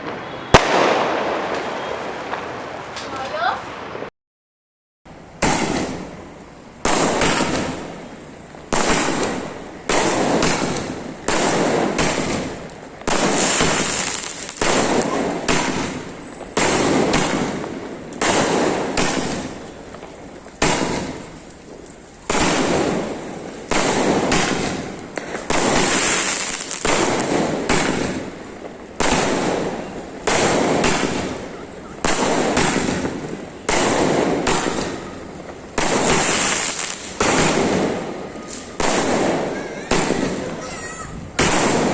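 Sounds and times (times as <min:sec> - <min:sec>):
firework bangs: 0:00.0 - 0:04.1, 0:05.3 - 0:41.9.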